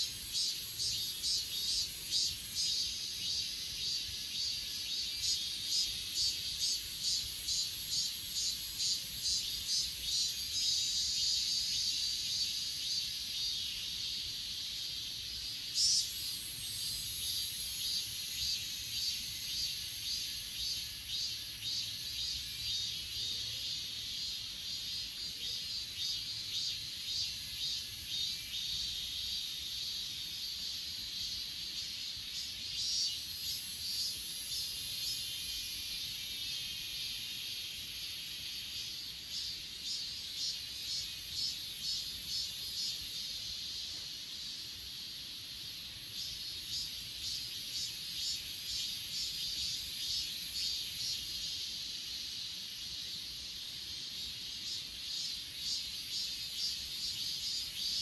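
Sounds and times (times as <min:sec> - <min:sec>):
buzzing insect call: 0:00.0 - 0:58.0
crickets chirping: 0:00.0 - 0:58.0.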